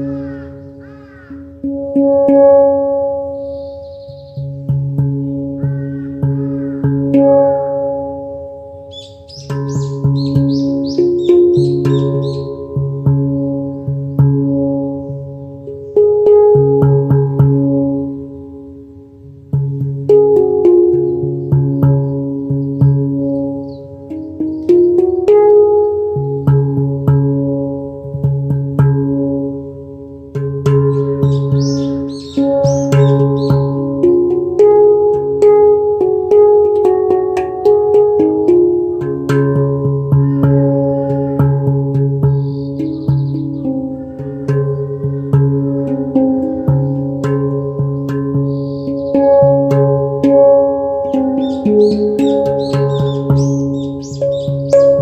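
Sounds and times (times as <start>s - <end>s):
handpan notes ringing: 0.0s - 55.0s.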